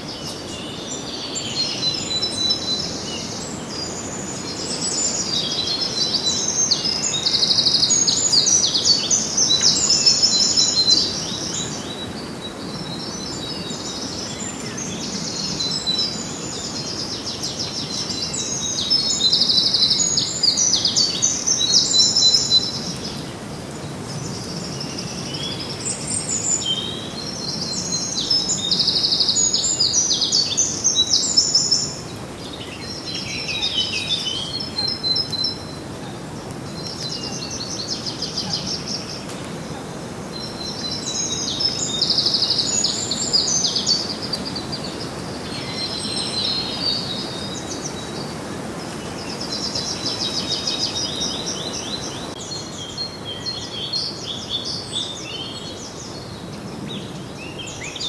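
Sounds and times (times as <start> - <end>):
faint outdoor background noise: 0.0 - 58.0
songbirds chirping and singing: 0.0 - 58.0.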